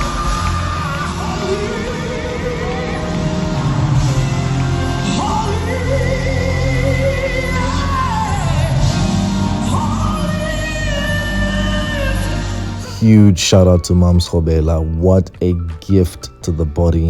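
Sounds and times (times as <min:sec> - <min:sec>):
band with deep bass: 0:00.0 - 0:15.8
person singing gospel: 0:00.0 - 0:17.0.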